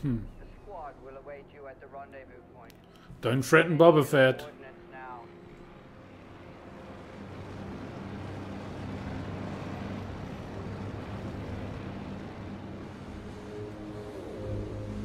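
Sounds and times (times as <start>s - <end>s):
starship engine rumbling hum: 0.0s - 15.0s.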